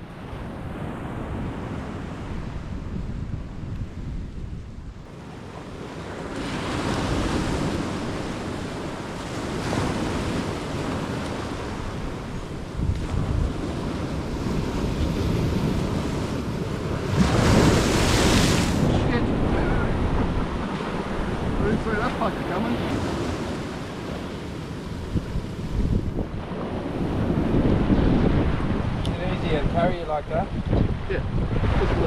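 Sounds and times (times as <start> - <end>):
ocean surf washing up beach: 0.0 - 32.0
wind rumbling on microphone: 0.0 - 32.0.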